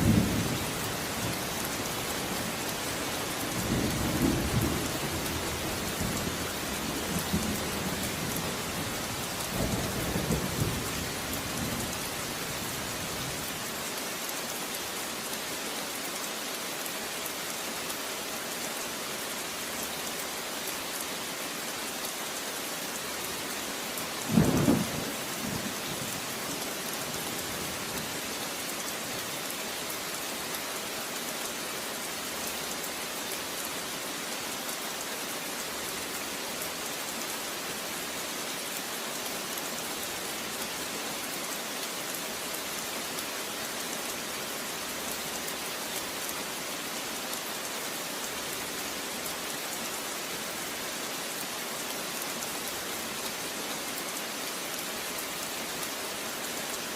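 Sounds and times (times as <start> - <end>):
rain hissing: 0.0 - 56.9.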